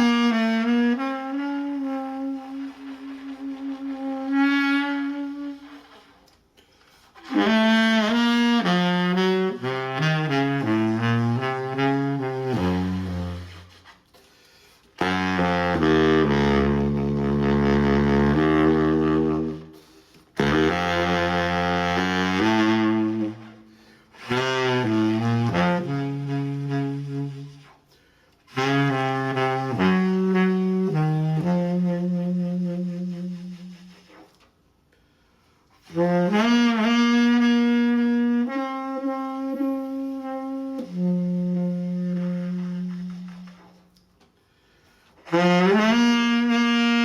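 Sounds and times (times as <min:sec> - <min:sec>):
saxophone playing slow phrases: 0:00.0 - 0:47.0.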